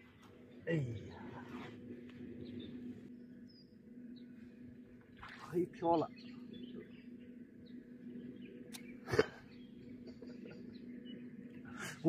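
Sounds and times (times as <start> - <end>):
faint bird chirps: 2.3 - 12.0.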